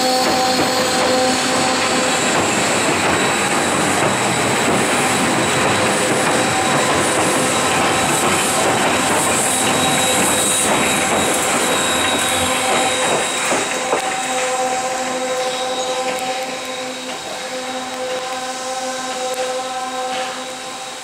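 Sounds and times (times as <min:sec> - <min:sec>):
high wheel squeal: 0:00.0 - 0:21.0
train wheels clattering on rail: 0:00.0 - 0:21.0.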